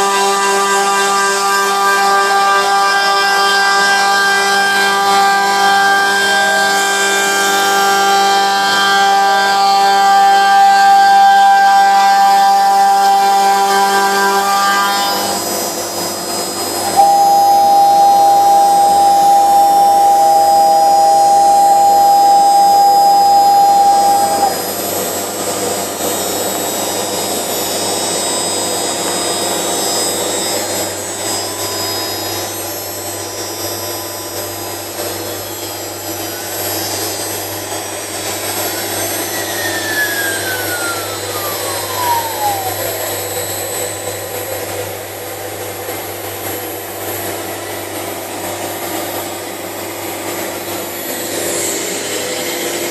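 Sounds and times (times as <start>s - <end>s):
loud steady whine: 0.0s - 52.9s
router and dust extractor drone: 0.0s - 52.9s
whine falling in pitch: 7.7s - 28.5s, 30.6s - 52.9s.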